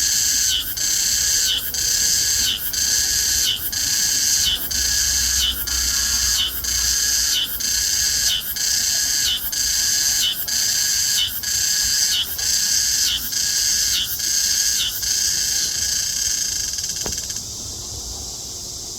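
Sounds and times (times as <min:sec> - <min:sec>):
cicada buzzing call: 0:00.0 - 0:17.8.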